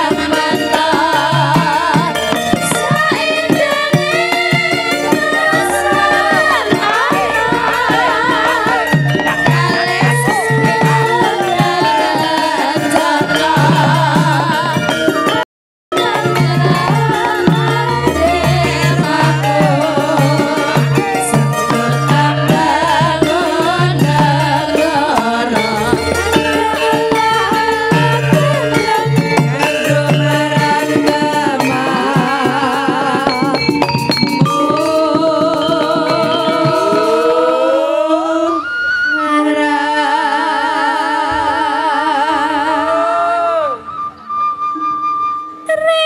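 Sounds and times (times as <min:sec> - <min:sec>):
women singing together: 0:00.0 - 0:15.4, 0:16.0 - 0:43.8
drum strokes: 0:00.0 - 0:37.7
gamelan accompaniment: 0:00.0 - 0:39.6.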